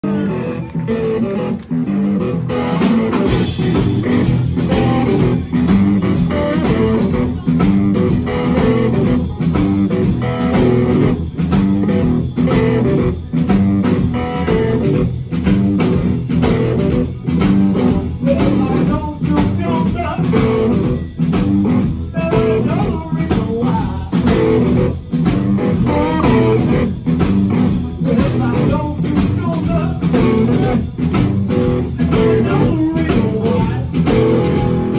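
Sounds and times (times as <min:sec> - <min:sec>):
blues band playing: 0:00.0 - 0:34.9.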